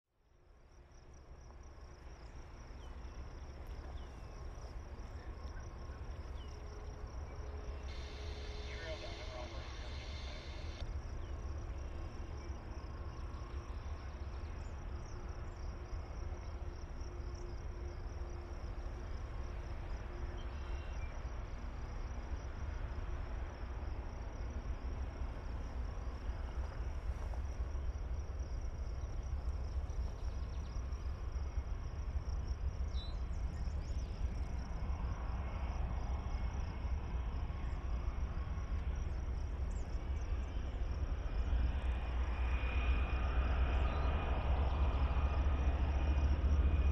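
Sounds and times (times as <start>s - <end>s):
insects trilling: 0.6s - 46.9s
freight train rumble: 0.8s - 46.9s.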